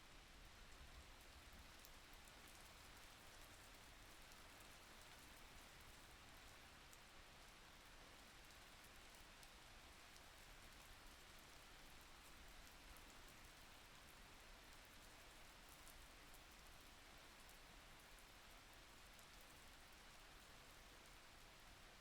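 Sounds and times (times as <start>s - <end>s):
faint steady rain: 0.0s - 22.0s
light raindrop ticks: 0.6s - 21.6s.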